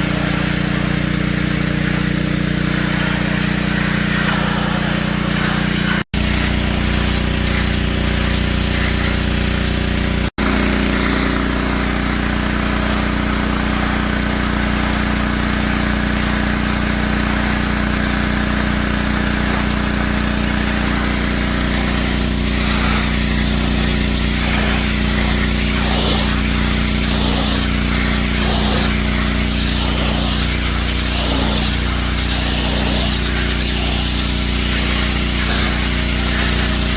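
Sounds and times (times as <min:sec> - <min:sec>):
pressure washer machine hum: 0:00.0 - 0:36.9
water jet spraying: 0:00.0 - 0:36.9.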